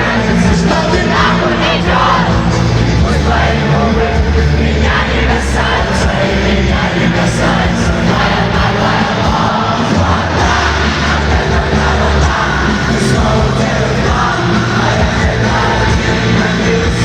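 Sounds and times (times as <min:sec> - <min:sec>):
heavy bass: 0:00.0 - 0:17.0
live rock band playing: 0:00.0 - 0:17.0.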